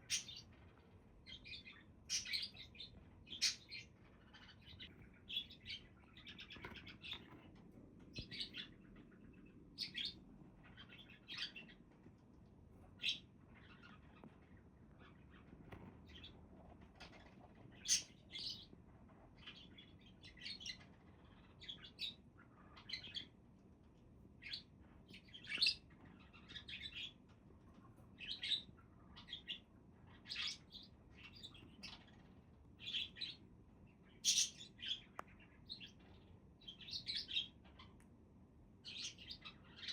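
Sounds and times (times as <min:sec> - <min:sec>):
budgerigars chirping and chattering: 0:00.0 - 0:07.4, 0:08.1 - 0:11.9, 0:13.0 - 0:16.4, 0:17.0 - 0:18.8, 0:19.4 - 0:23.4, 0:24.4 - 0:27.3, 0:28.1 - 0:38.0, 0:38.8 - 0:39.9.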